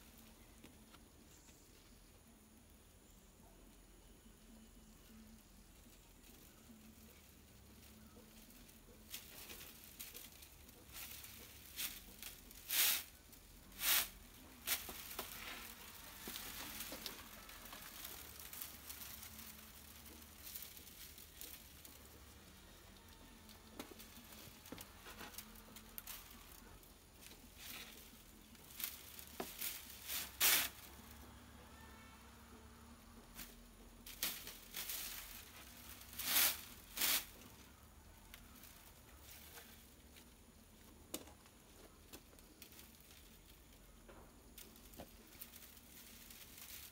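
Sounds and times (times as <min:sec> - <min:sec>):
dry leaf stalks rustling and clicking: 0:05.0 - 0:46.9.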